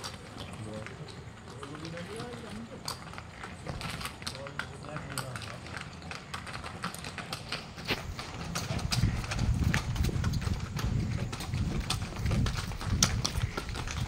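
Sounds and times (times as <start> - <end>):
cart rattling: 0.0 - 14.0
hooves clopping on pavement: 0.0 - 14.0.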